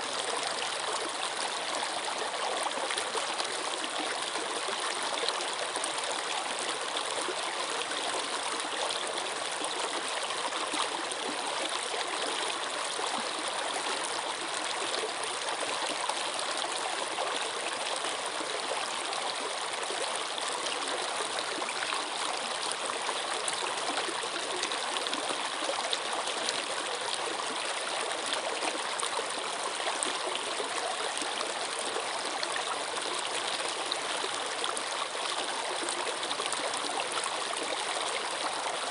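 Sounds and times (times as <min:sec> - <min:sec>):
stream of water babbling: 0:00.0 - 0:38.9.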